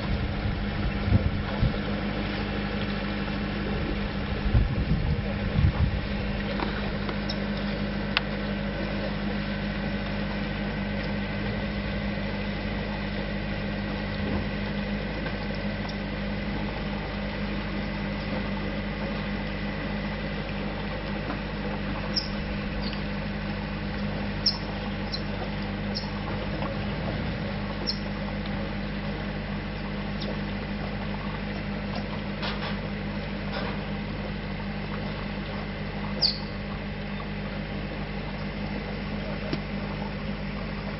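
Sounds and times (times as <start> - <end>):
steamer engine humming: 0.0 - 40.9.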